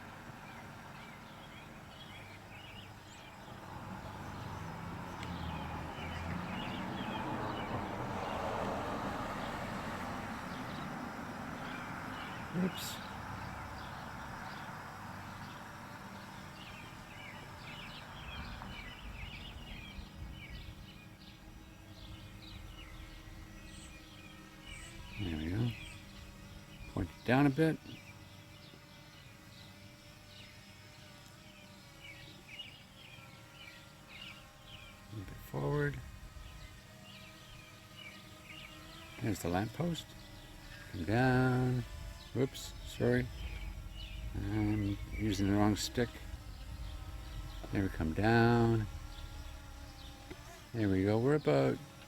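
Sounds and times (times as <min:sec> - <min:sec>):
distant traffic: 0:00.0 - 0:30.9, 0:31.5 - 0:52.0
faint background hum: 0:00.0 - 0:52.0
small birds chirping: 0:00.0 - 0:52.0.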